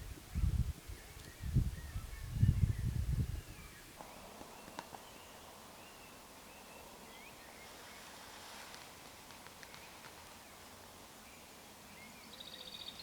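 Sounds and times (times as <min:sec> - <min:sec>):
faint birds chirping: 0:00.0 - 0:13.0
outdoor ambience: 0:00.0 - 0:13.0.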